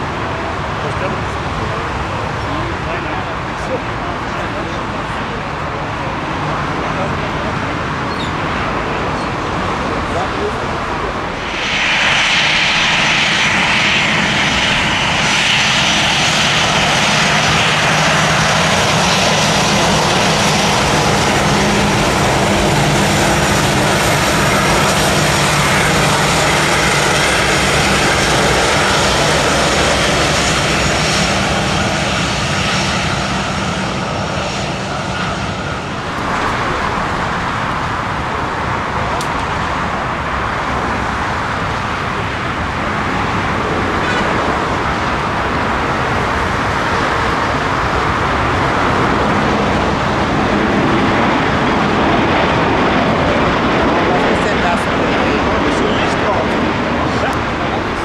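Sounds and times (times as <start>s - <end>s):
jet airliner engines passing: 0.0s - 58.0s.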